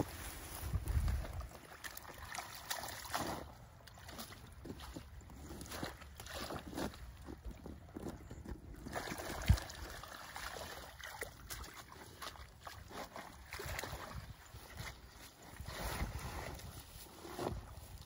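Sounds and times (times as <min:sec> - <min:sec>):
rustling plants: 0:00.0 - 0:09.6, 0:12.8 - 0:18.0
shallow water sloshing and splashing: 0:00.2 - 0:17.8.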